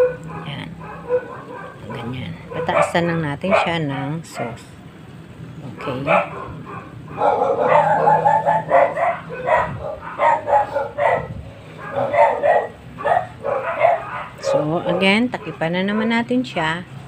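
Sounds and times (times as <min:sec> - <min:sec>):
dog barking: 0:00.0 - 0:04.6, 0:05.8 - 0:16.3.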